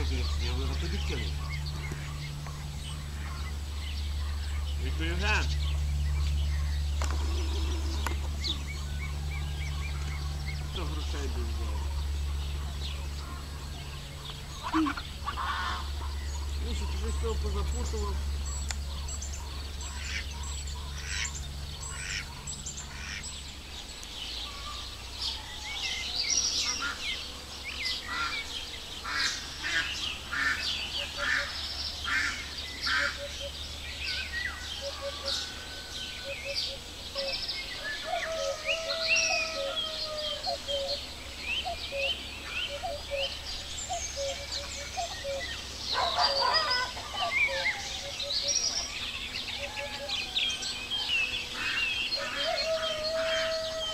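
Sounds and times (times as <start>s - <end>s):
birds singing and chirping: 0.0s - 53.9s
low bird calls: 0.0s - 53.9s
low steady rumble: 0.0s - 53.9s.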